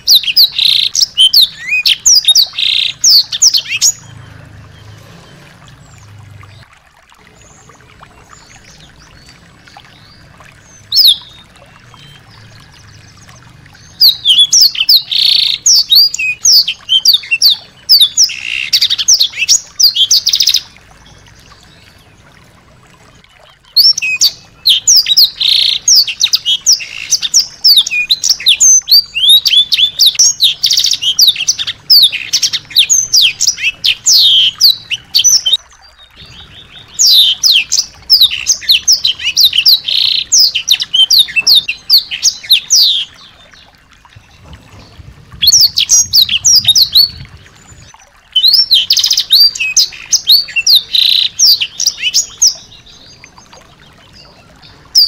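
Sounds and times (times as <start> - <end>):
songbird chirping and trilling: 0.0 - 55.0.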